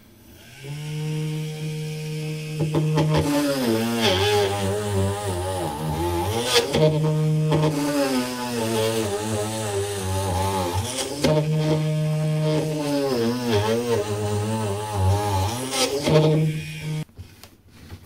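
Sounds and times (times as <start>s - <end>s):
drill press motor running: 0.3s - 17.1s.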